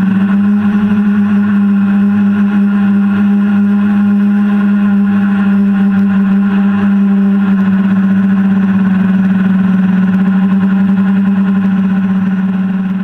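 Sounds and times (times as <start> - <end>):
drone motors buzzing hum: 0.0 - 13.0.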